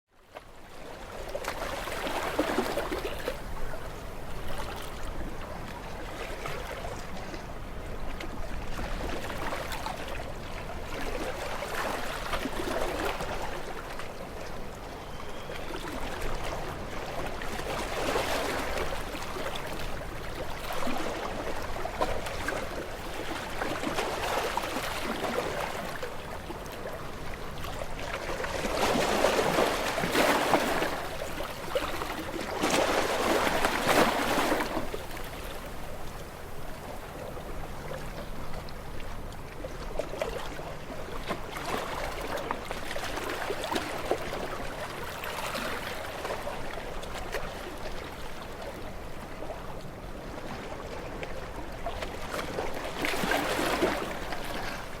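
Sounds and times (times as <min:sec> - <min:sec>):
small waves washing onto shore: 0:00.4 - 0:55.0.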